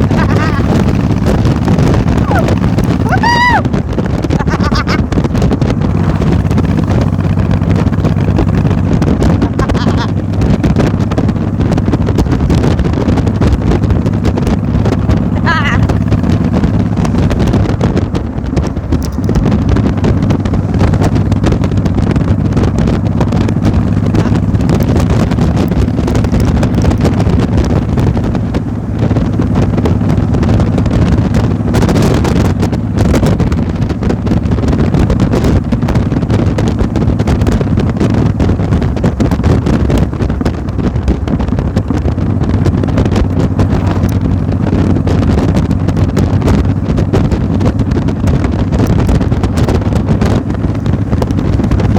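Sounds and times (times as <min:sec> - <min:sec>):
engine running steadily: 0:00.0 - 0:51.9
wind buffeting microphone: 0:00.0 - 0:51.9.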